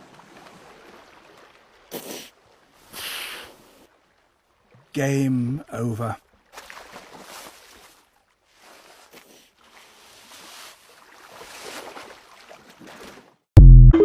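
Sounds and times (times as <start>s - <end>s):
water splashing and sloshing: 0.0s - 13.6s.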